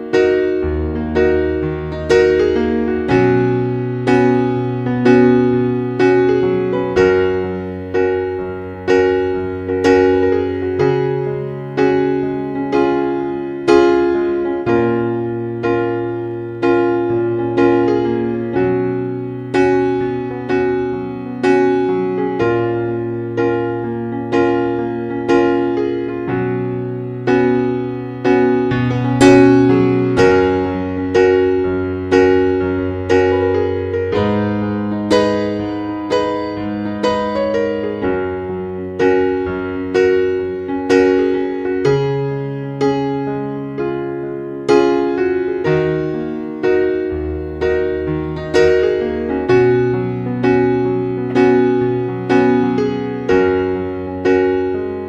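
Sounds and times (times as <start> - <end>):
soft electric piano chords: 0.0 - 55.0.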